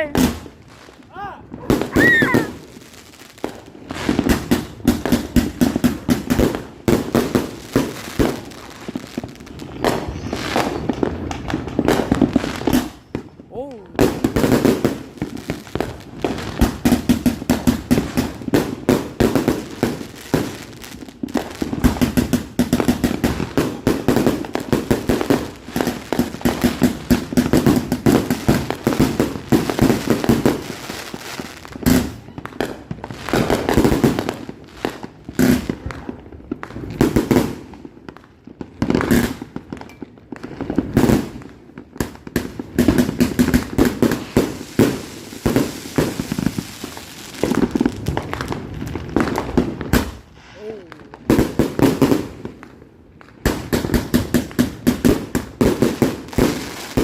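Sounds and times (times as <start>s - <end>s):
fireworks crackling bangs: 0.0s - 57.0s.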